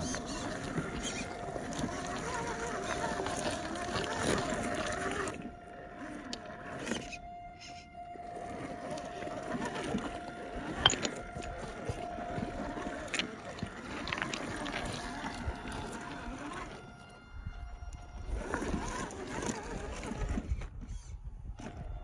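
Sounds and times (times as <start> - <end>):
stones clicking under tyres: 0.0 - 17.0, 18.2 - 20.8
electric motor whining: 0.0 - 22.0.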